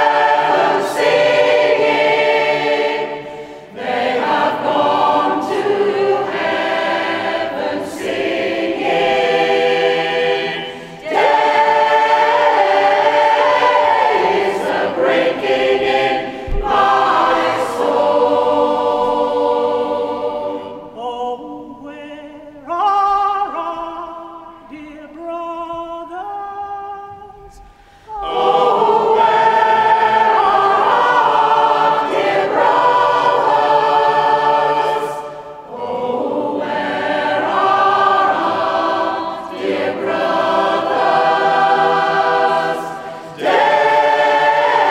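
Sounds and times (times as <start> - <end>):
choir singing in harmony: 0.0 - 26.2, 27.4 - 44.9.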